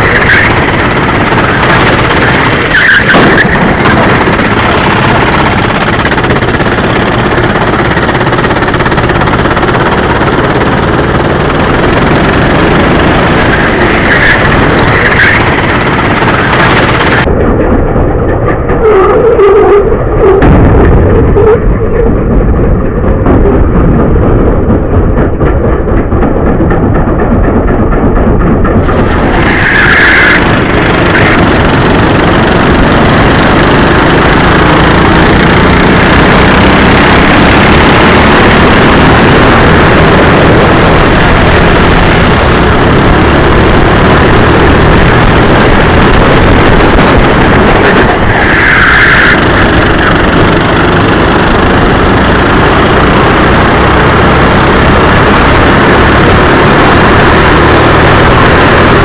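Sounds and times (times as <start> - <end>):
high-pitched squeal: 0.0 - 17.3, 18.0 - 23.8, 28.7 - 59.0
kart engine running hard: 0.0 - 17.3, 28.0 - 59.0
rush of noise: 0.0 - 59.0.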